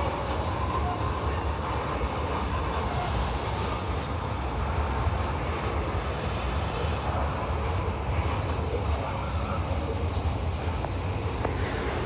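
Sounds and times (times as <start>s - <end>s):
freight train wheels rumbling on rail: 0.0s - 12.0s.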